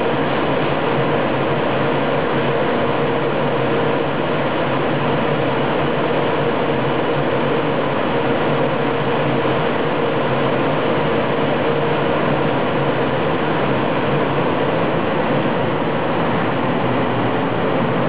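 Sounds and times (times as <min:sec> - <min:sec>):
locomotive cooling blowers rushing: 0:00.0 - 0:18.0.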